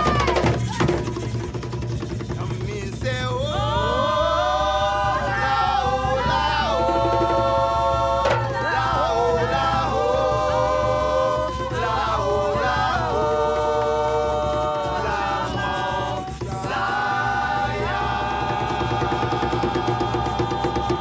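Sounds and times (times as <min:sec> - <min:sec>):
group singing in harmony: 0:02.6 - 0:21.0.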